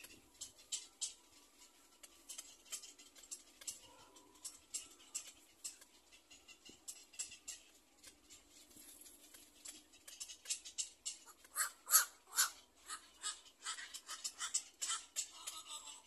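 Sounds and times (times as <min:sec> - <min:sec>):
herons clicking calls: 0:00.0 - 0:16.0.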